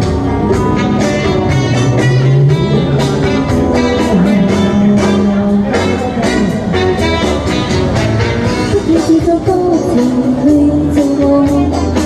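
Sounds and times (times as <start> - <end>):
pop guitar instrumental with beat: 0.0 - 12.0.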